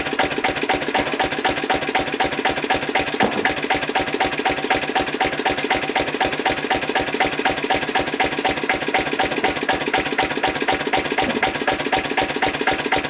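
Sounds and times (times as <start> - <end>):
stationary diesel engine running: 0.0 - 13.0.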